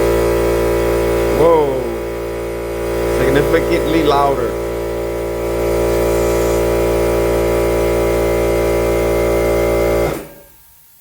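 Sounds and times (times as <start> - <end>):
air compressor humming: 0.0 - 10.4.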